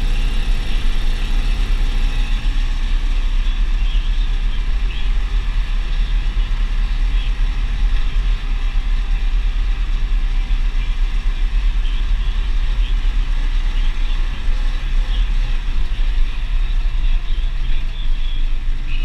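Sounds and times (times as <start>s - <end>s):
tractor diesel engine rumble: 0.0s - 19.0s.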